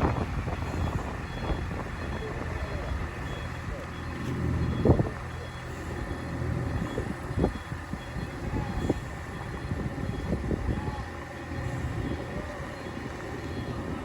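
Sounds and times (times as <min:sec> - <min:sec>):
truck diesel engine running: 0:00.0 - 0:14.0
faint high beep: 0:00.6 - 0:14.0.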